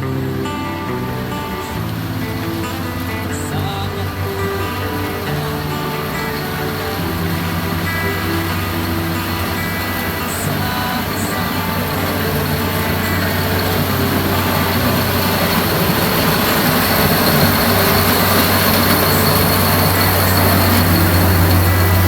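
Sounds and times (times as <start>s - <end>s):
loud mechanical rush: 0.0s - 22.0s
low engine hum: 0.0s - 22.0s.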